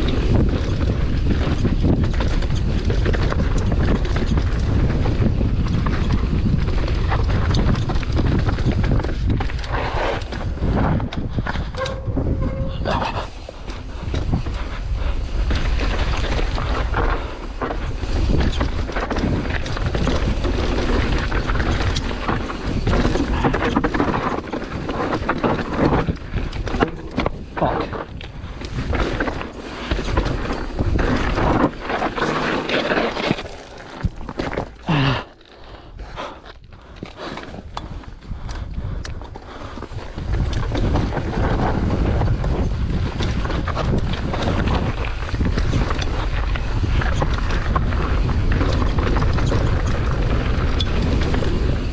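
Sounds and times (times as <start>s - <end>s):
tyres rumbling over gravel: 0.0s - 11.7s, 12.8s - 51.9s
wind buffeting microphone: 0.0s - 32.2s, 33.2s - 51.9s
bike rattling and knocking: 0.0s - 51.9s.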